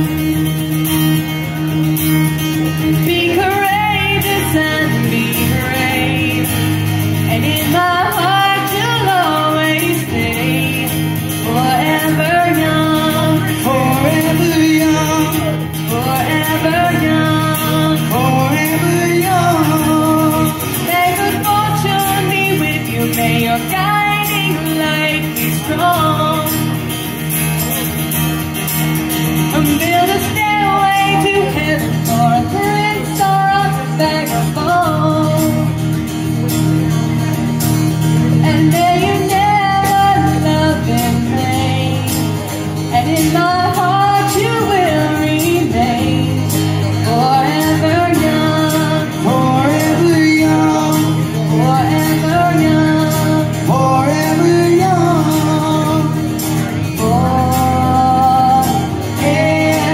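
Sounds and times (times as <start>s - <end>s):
person singing: 0.0s - 27.6s, 29.3s - 59.9s
acoustic guitar strumming: 0.0s - 59.9s.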